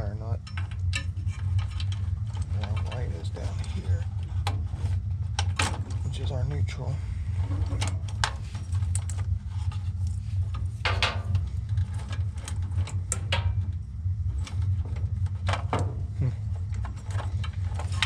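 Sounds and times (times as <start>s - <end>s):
metal parts rattling and clicking: 0.0s - 4.8s, 7.4s - 15.9s, 16.6s - 18.0s
steady low hum: 0.0s - 18.0s.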